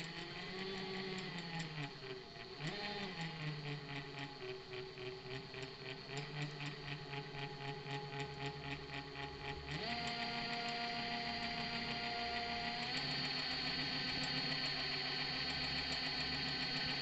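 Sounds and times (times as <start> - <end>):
e-bike motor whine: 0.0 - 17.0.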